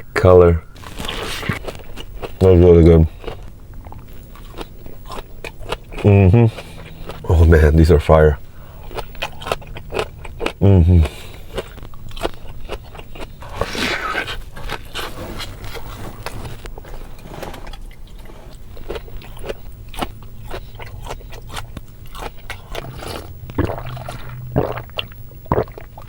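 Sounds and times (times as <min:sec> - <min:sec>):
chewing crisp food: 0:00.8 - 0:26.0.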